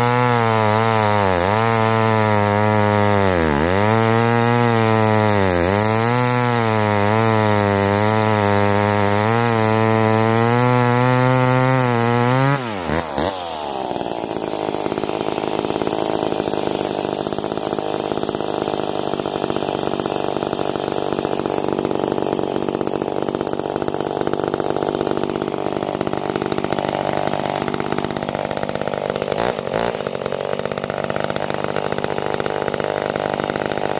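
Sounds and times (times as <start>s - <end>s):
chainsaw cutting log: 0.0s - 33.9s
chainsaw idling: 0.0s - 33.9s.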